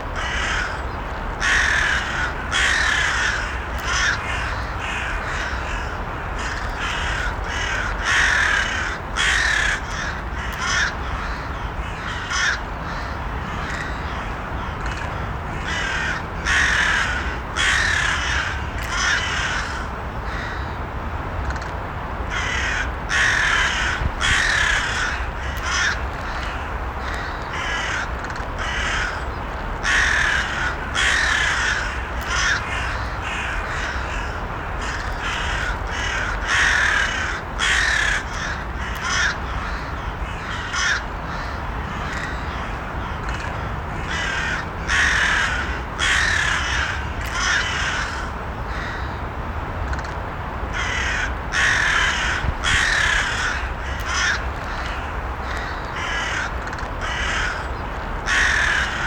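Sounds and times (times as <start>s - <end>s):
crows cawing: 0.2s - 20.8s, 22.3s - 49.2s, 50.7s - 59.0s.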